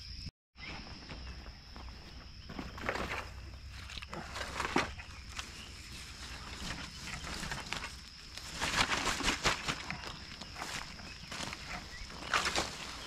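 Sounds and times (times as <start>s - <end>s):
footsteps crunching dry leaves: 1.8s - 13.0s.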